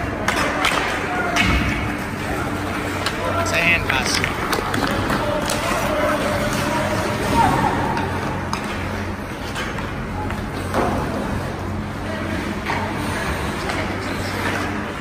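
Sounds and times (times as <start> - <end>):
hockey sticks and puck clicking: 0.0 - 11.4, 12.4 - 15.0
distant voices: 0.0 - 15.0.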